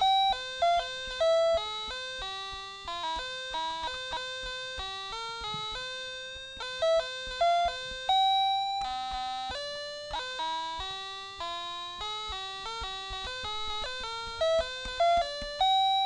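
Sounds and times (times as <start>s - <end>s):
bell-like melody: 0.0s - 16.0s.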